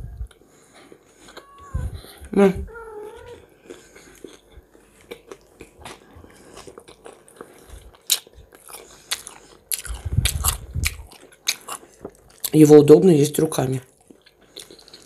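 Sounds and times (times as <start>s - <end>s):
person chewing food: 0.2s - 12.6s, 13.9s - 15.0s.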